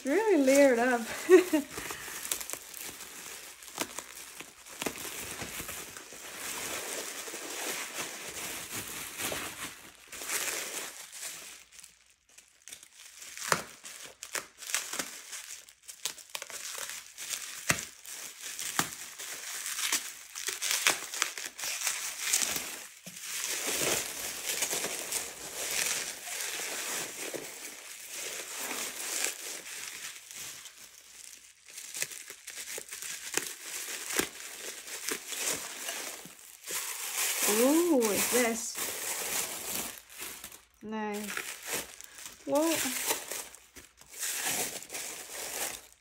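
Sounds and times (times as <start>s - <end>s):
bubble wrap crinkling: 0.0s - 46.0s.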